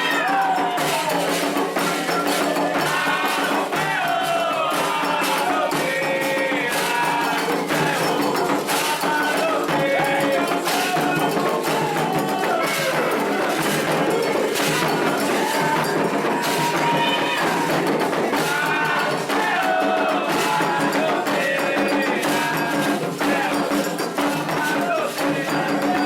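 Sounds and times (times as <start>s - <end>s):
hand drums and percussion: 0.0s - 26.0s
voices singing a chant: 0.0s - 26.0s.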